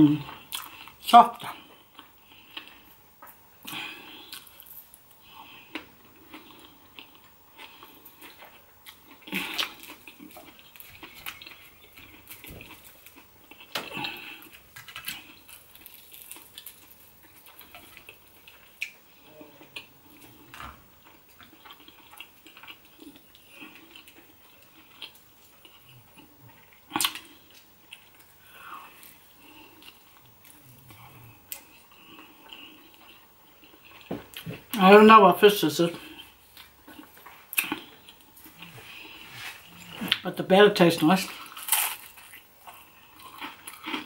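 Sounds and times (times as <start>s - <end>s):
person chewing: 0.0s - 34.8s, 35.9s - 40.3s, 41.3s - 44.0s.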